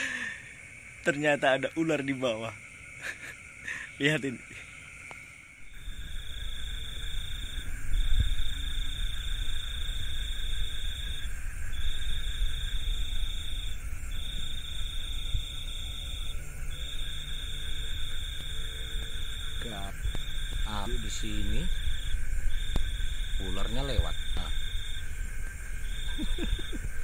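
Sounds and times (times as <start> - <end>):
cricket trilling: 0.0 - 27.0.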